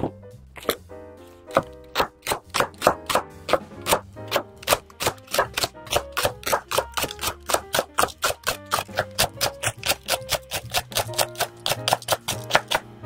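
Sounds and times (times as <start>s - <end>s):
background music: 0.0s - 13.0s
knife chopping on wooden board: 1.5s - 12.9s.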